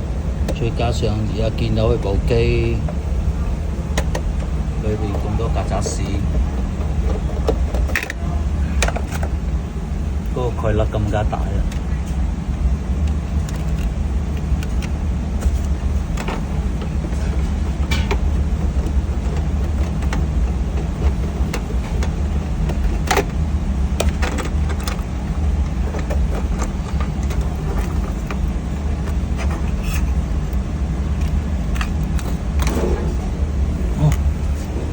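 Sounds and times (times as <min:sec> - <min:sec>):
machinery rumble: 0:00.0 - 0:34.9.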